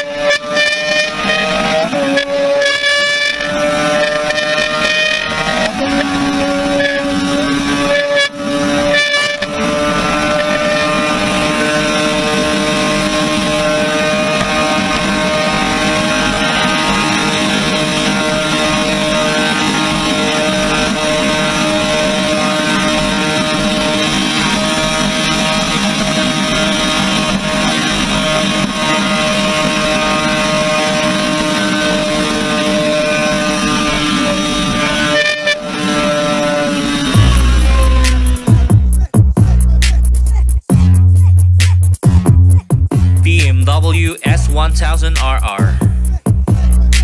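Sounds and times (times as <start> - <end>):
motorcycle engine at high revs: 0.0 - 38.7.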